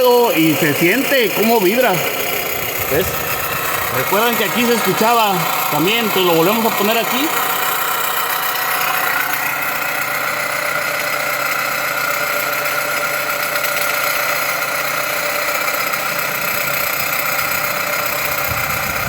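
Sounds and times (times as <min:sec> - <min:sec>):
car engine idling: 0:00.0 - 0:19.0
whining accessory drive: 0:00.0 - 0:19.0.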